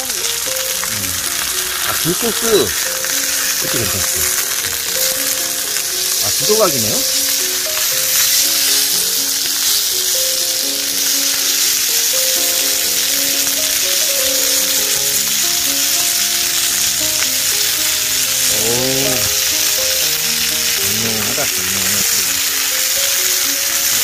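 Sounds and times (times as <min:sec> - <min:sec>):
steaks sizzling in a pan: 0:00.0 - 0:24.0.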